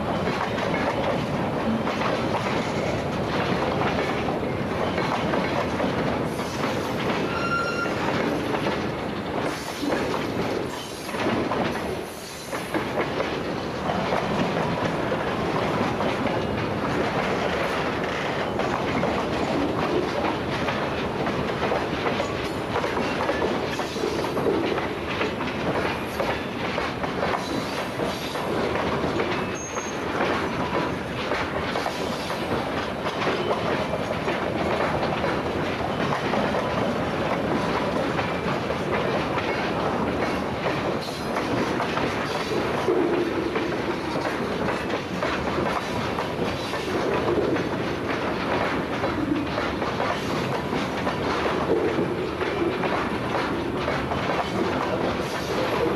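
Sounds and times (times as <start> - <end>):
freight train wheels clicking on rails: 0.0 - 55.9.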